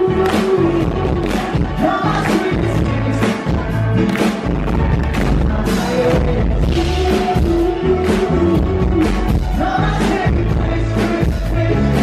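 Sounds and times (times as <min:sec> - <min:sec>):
bass: 0:00.0 - 0:12.0
drums: 0:00.0 - 0:12.0
person singing into a microphone: 0:00.0 - 0:12.0.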